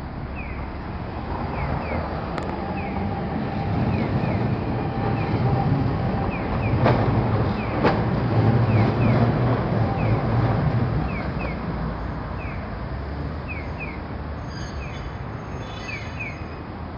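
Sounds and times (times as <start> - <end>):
streetcar rumbling: 0.0 - 16.9.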